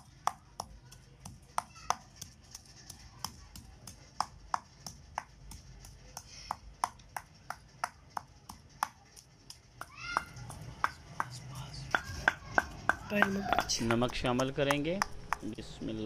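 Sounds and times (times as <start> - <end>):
rhythmic knocking in kitchen: 0.0 - 16.0.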